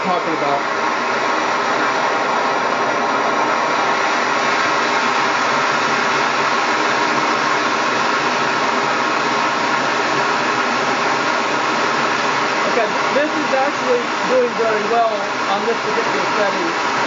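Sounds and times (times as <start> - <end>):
stove burner hissing: 0.0 - 17.0.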